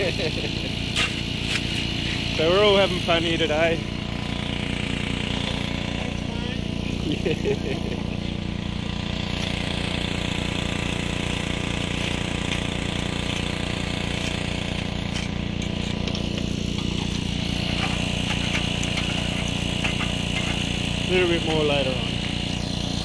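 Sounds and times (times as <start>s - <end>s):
small petrol engine running: 0.0s - 23.0s.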